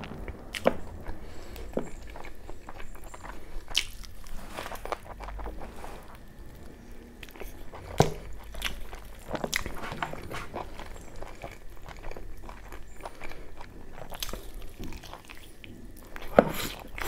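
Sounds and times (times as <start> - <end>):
person biting and chewing food: 0.0 - 17.0.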